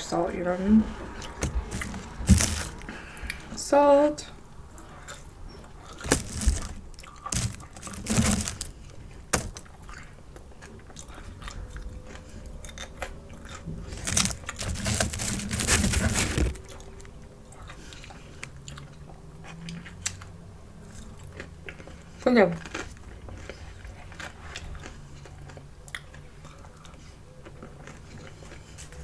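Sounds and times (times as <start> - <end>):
person chewing crunchy fries: 1.2 - 3.5, 4.7 - 29.0.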